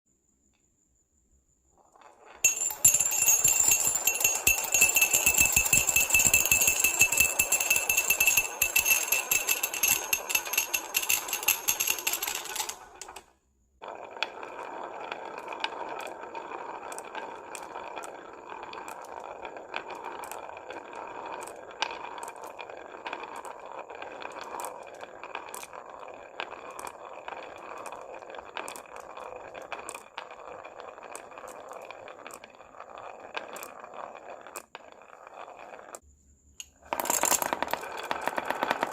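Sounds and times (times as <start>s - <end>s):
marbles rattling down wooden run: 2.0s - 36.0s, 36.8s - 38.9s.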